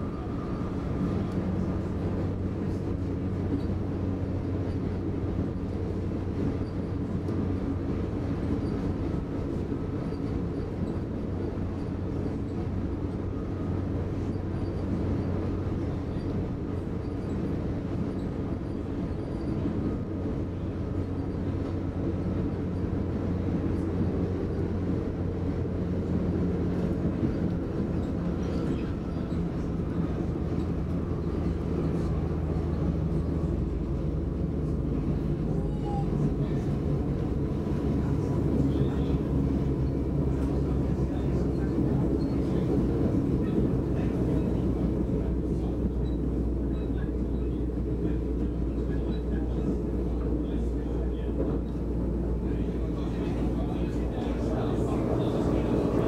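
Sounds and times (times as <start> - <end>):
electric train interior hum: 0.0 - 56.0.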